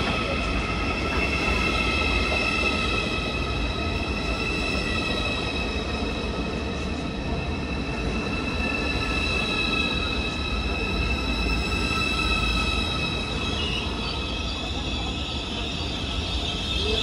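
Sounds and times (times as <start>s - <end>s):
electric train arriving: 0.0s - 17.0s.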